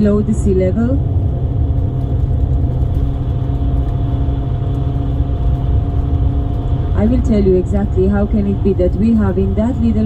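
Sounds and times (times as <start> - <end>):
faint steady hum: 0.0 - 10.0
road vehicle rumble: 0.0 - 10.0.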